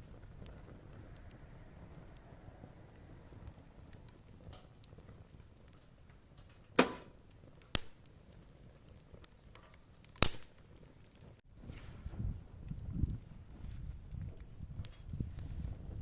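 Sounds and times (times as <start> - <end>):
firewood popping: 0.0 - 16.0
wood fire burning: 0.0 - 16.0.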